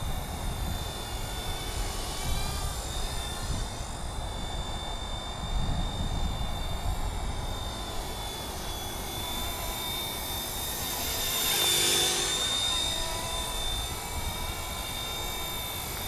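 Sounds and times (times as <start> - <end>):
model helicopter whine: 0.0 - 16.0
rotor flutter: 0.0 - 16.0.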